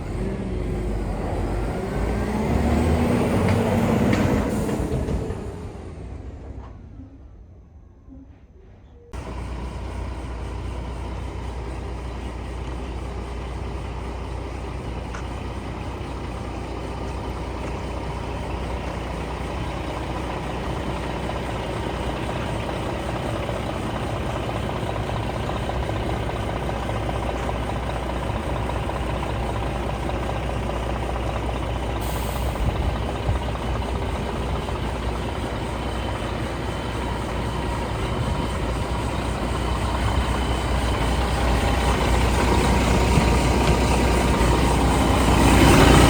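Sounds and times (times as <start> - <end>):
diesel truck engine idling: 0.0 - 6.5, 9.2 - 46.0.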